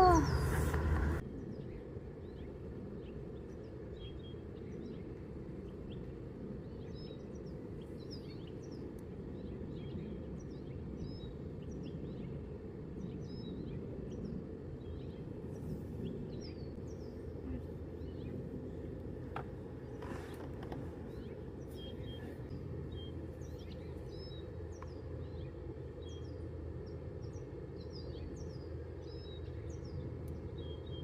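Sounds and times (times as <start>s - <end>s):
low background rumble: 0.0s - 31.0s
small birds chirping: 0.0s - 31.0s.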